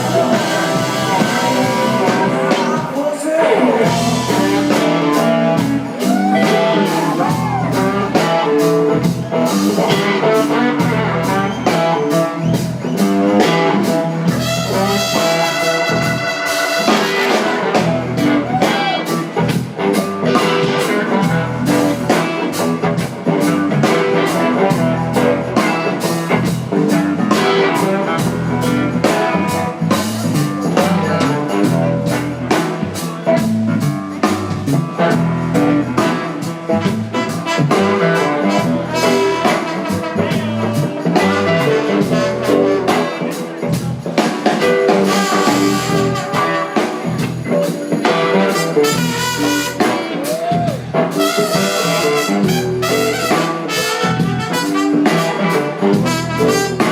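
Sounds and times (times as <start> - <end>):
blues-rock band playing live: 0.0 - 56.9.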